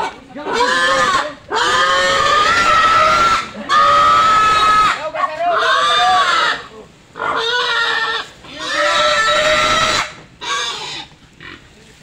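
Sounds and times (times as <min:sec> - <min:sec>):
pig squealing loudly: 0:00.0 - 0:11.6.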